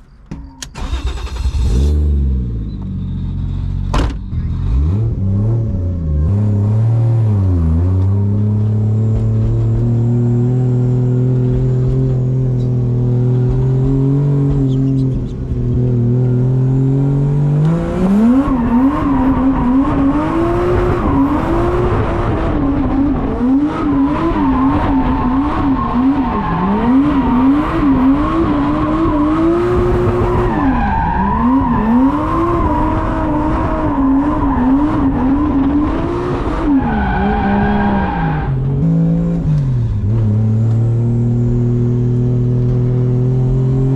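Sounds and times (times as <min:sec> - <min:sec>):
car engine revving: 0:00.8 - 0:43.9.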